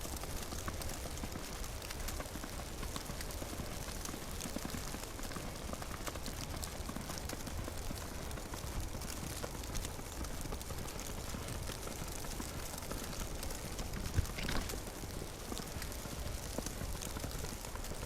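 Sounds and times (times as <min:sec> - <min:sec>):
falling snow hiss and ticks: 0:00.0 - 0:18.0.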